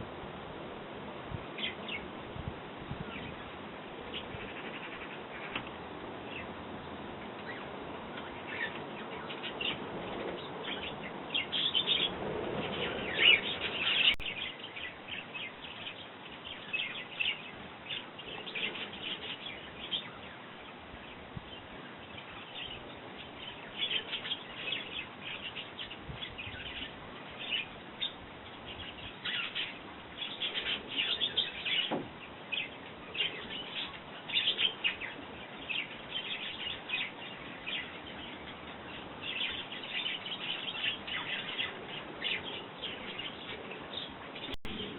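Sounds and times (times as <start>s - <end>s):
small birds chirping: 1.5s - 44.9s.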